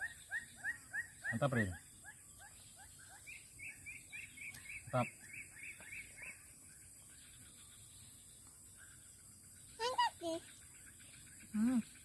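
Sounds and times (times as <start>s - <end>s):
birds chirping: 0.0s - 12.0s
higher quicker bird chirps: 0.0s - 12.0s
loud bird cry: 0.0s - 12.0s.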